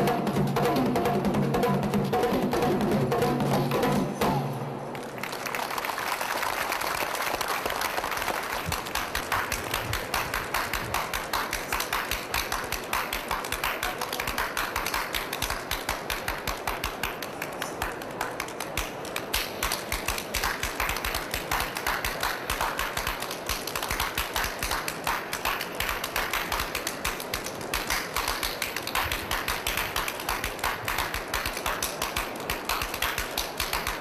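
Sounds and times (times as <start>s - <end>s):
rhythmic hand clapping: 0.0s - 34.0s.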